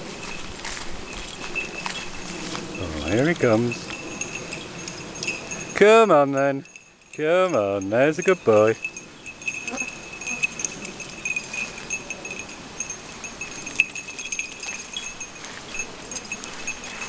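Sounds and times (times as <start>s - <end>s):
small metal bell jingling: 0.0s - 17.0s.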